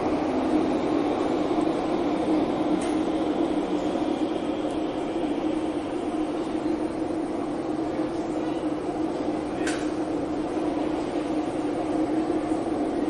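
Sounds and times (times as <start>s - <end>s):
train cabin rumble and hum: 0.0s - 13.0s.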